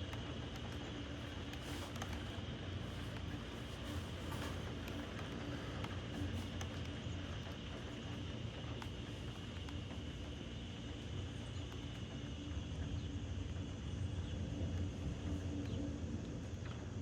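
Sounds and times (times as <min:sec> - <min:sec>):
constant low rumble: 0:00.0 - 0:17.0.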